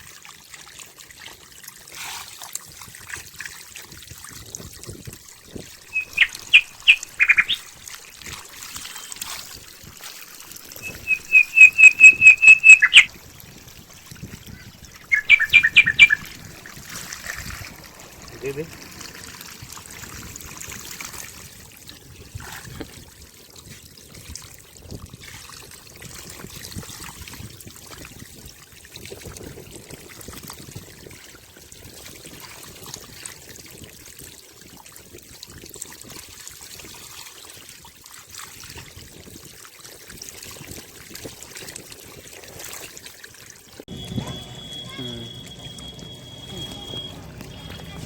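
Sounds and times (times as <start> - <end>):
water trickling and flowing: 0.0 - 48.0.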